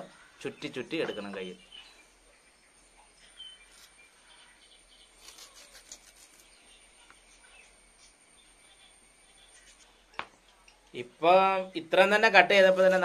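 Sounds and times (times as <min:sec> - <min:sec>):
faint bird chirp: 0:00.0 - 0:11.0.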